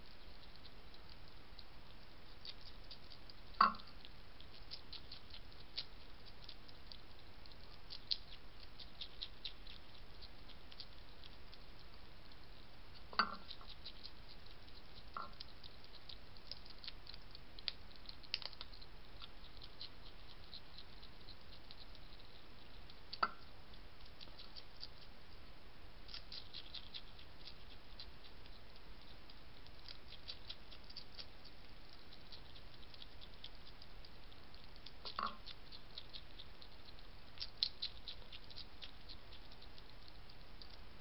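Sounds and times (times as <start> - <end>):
hedgehog chewing food: 0.0 - 41.0.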